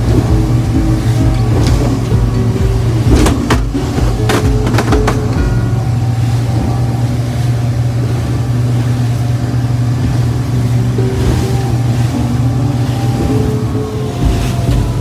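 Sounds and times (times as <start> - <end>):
motorboat engine running: 0.0 - 15.0
water rushing and splashing: 0.0 - 15.0.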